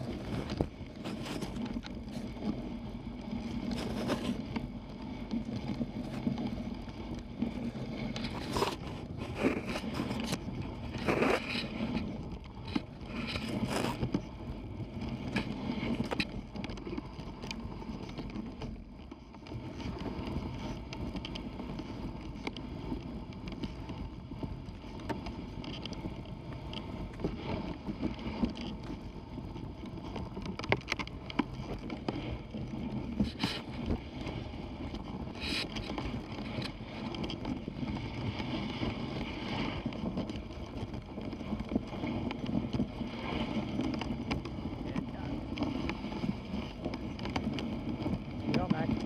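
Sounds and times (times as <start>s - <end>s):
sled runners shushing in snow: 0.0s - 30.5s, 31.1s - 49.0s.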